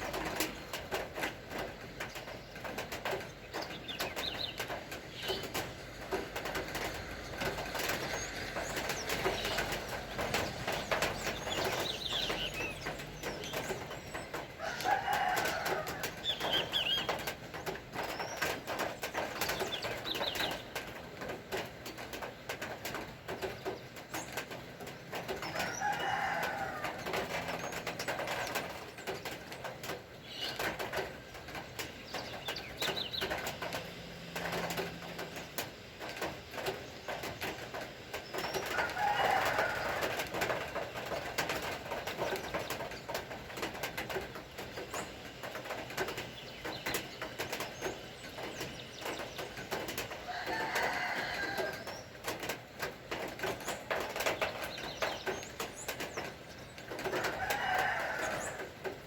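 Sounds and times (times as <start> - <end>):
birds calling: 0.0 - 59.0
rain pattering: 0.0 - 59.0.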